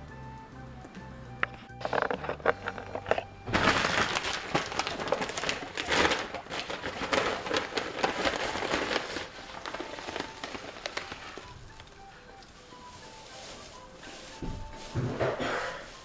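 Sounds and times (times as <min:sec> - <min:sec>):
guinea pig rustling through hay: 0:03.1 - 0:16.0.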